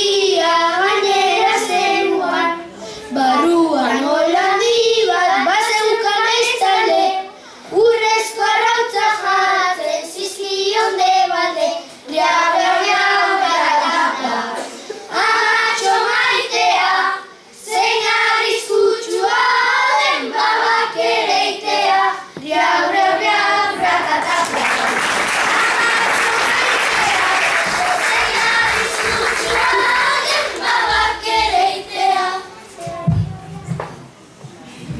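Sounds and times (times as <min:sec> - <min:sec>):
children singing: 0:00.0 - 0:32.7.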